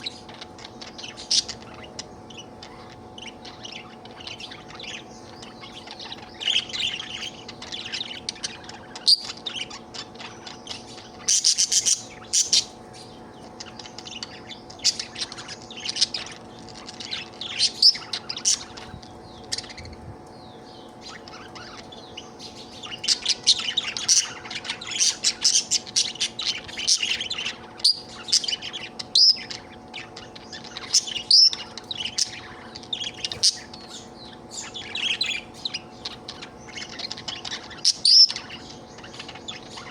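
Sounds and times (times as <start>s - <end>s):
budgerigar chirping: 0.0s - 19.9s, 20.7s - 39.9s
faint steady hum: 0.0s - 39.9s.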